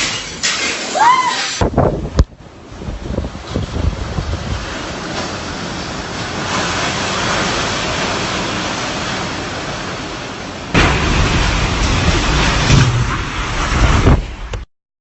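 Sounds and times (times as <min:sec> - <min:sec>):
storm wind blowing hard: 0:01.6 - 0:14.7
wind gusts buffeting microphone: 0:01.6 - 0:14.7.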